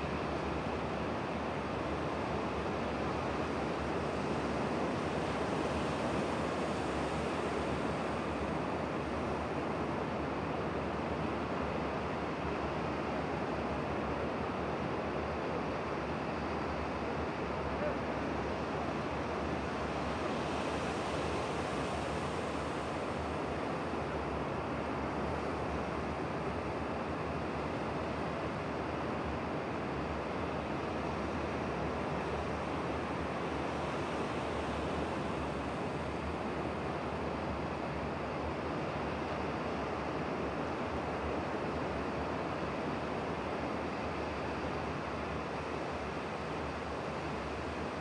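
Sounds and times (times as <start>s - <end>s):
sea surf rushing: 0.0s - 48.0s.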